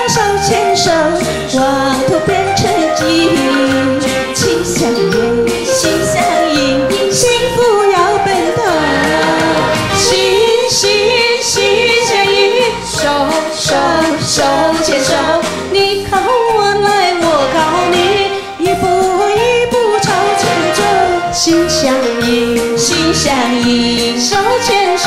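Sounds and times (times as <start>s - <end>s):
backing track music: 0.0s - 25.0s
women singing pop duet: 0.0s - 25.0s.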